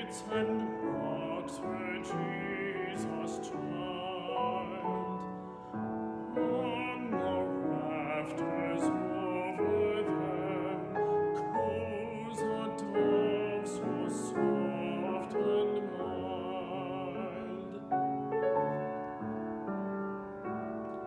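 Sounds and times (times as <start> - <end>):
classical singer with vibrato: 0.0 - 19.6
piano accompaniment: 0.0 - 21.0.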